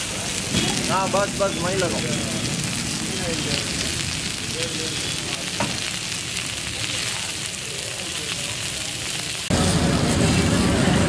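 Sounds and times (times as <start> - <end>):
faint voices: 0.0 - 11.0
meat sizzling on a griddle: 0.0 - 11.0
street noise and voices: 0.0 - 11.0.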